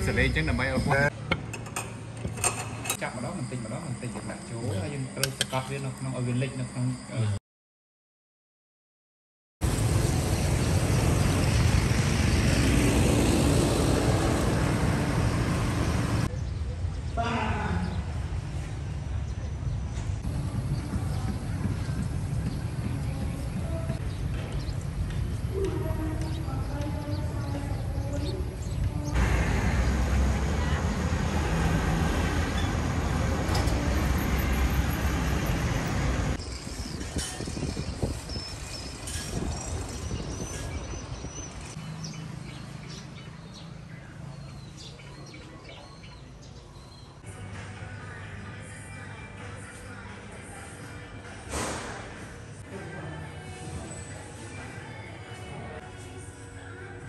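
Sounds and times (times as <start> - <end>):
road traffic rumble: 0.0 - 5.8, 9.6 - 56.2.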